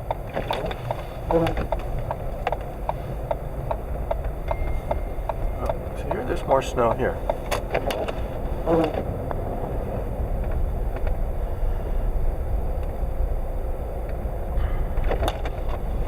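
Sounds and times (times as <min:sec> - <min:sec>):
car engine rumble: 0:00.0 - 0:16.0
tyre noise on snowy road: 0:00.0 - 0:16.0.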